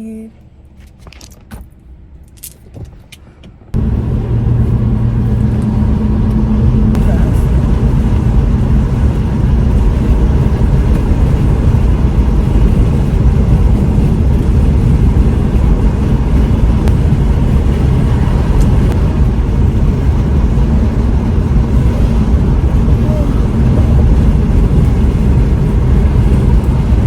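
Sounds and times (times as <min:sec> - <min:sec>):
car interior road and engine rumble: 0:00.0 - 0:27.0.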